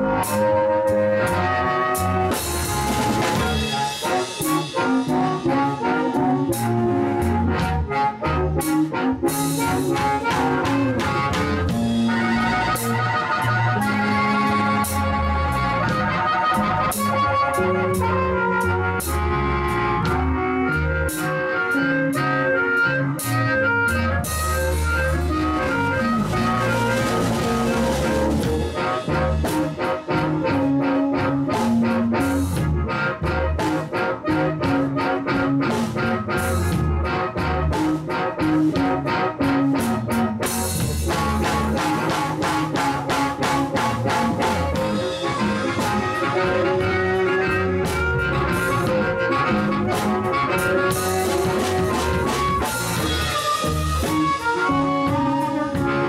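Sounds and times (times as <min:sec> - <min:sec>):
drum kit beat: 0:00.0 - 0:56.0
electric bass: 0:00.0 - 0:56.0
electric guitar lead line: 0:00.0 - 0:56.0.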